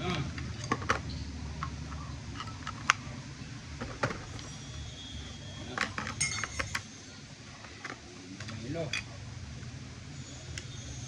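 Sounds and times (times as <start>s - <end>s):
doppler monitor static rumble: 0.0s - 11.0s.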